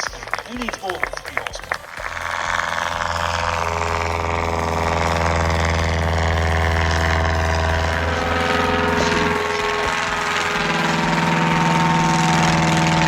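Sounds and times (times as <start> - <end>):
aircraft piston engine running: 0.0 - 13.0.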